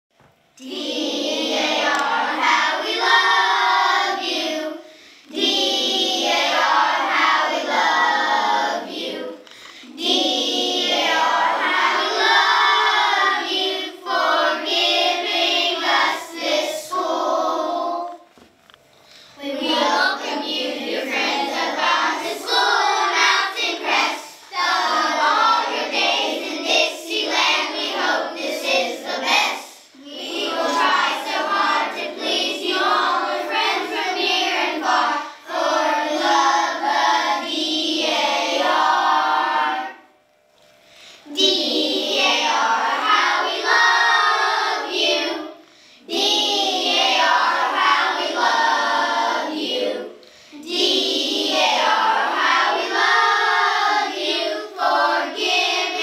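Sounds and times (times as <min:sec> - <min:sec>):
children singing together: 0:00.6 - 0:18.4, 0:19.1 - 0:40.2, 0:41.0 - 0:56.0.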